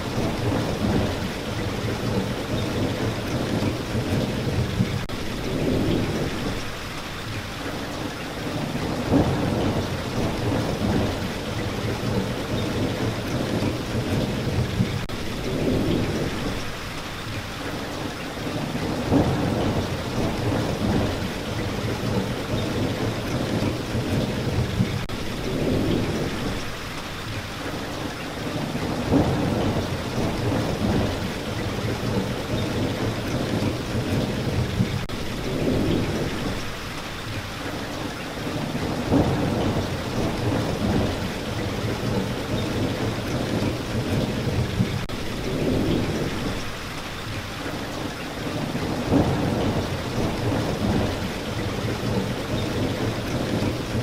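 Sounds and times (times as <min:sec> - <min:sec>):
thunder rumbling: 0:00.0 - 0:06.8, 0:08.5 - 0:16.8, 0:18.5 - 0:26.8, 0:28.5 - 0:36.8, 0:38.4 - 0:46.9, 0:48.4 - 0:54.0
rain falling: 0:00.0 - 0:54.0.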